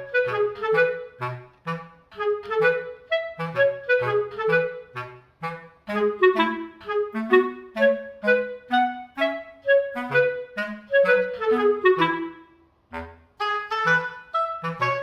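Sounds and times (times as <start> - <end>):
light instrumental music: 0.0 - 15.0.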